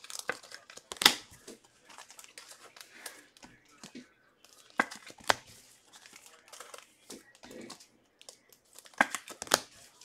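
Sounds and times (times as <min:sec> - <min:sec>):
wrappers crinkling and tearing: 0:00.0 - 0:10.0.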